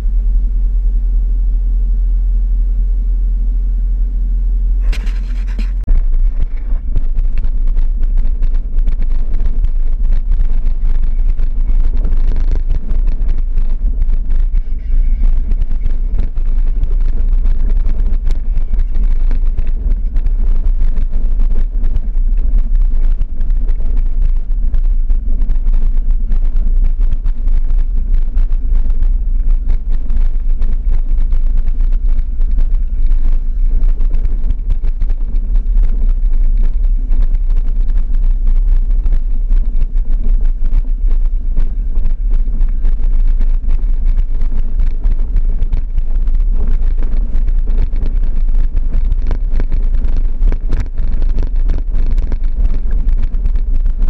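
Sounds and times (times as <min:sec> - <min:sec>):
vehicle engine and tyres rumbling: 0:00.0 - 0:54.0.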